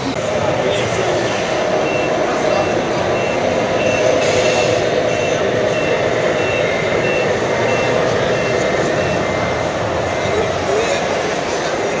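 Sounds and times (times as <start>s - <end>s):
crowd hubbub: 0.0s - 12.0s
reversing beeper: 1.0s - 11.0s.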